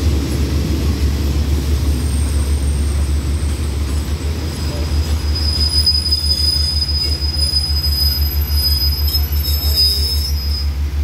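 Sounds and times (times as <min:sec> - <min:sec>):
train wheels squealing: 0:02.0 - 0:11.0.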